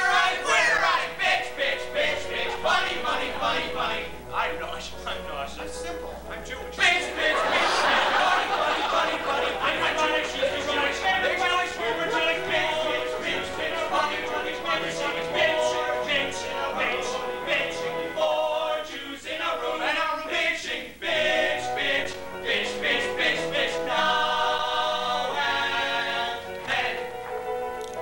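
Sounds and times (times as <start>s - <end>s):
men singing in harmony: 0.0s - 5.4s, 6.6s - 27.6s.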